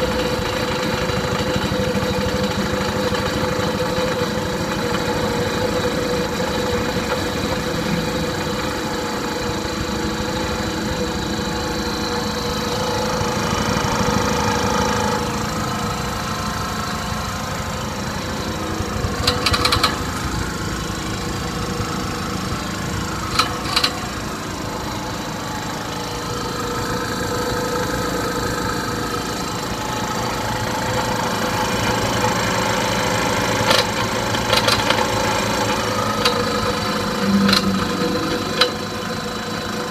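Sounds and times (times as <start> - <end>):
air compressor pulsing hum: 0.0 - 39.9.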